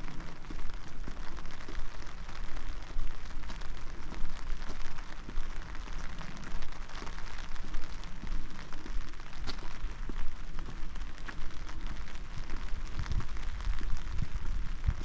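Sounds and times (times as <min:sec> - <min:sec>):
low rumble: 0:00.0 - 0:15.0
raindrops ticking on microphone: 0:00.0 - 0:15.0
steady rain: 0:00.0 - 0:15.0.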